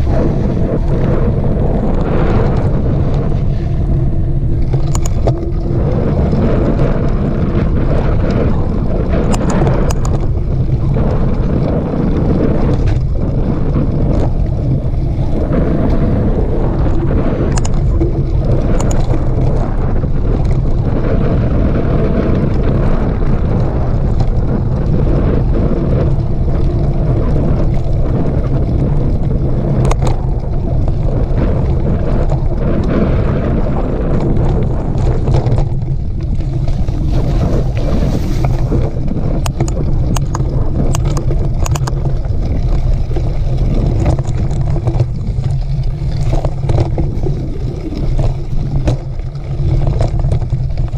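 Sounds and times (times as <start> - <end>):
bike clicks and rattles: 0.0 - 50.9
wind rumble on microphone: 0.0 - 50.9.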